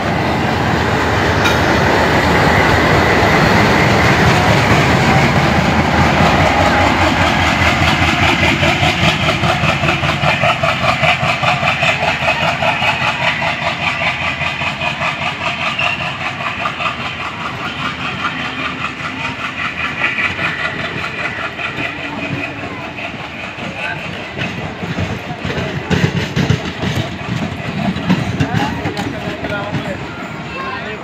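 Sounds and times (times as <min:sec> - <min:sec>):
train wheels clattering over rail joints: 0:00.7 - 0:30.1.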